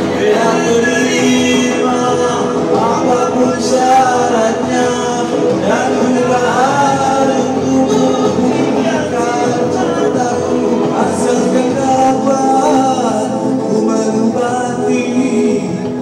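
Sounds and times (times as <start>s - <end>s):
backing track music: 0.0s - 16.0s
men singing karaoke: 0.0s - 16.0s.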